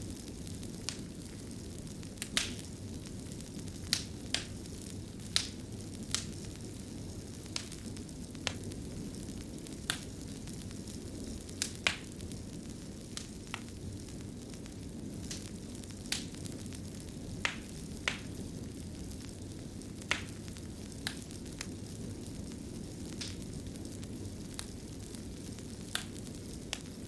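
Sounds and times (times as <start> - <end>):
fire crackling pops: 0.0 - 27.0
low rumble of flames: 0.0 - 27.0.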